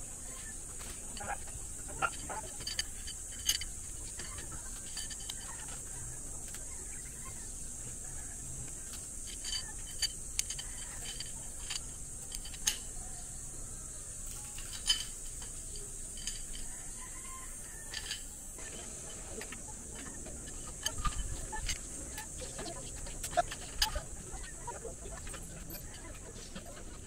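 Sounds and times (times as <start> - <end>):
steady high hiss: 0.0 - 27.0
metal tools clicking and clinking: 0.8 - 6.0, 8.7 - 13.3, 14.3 - 27.0.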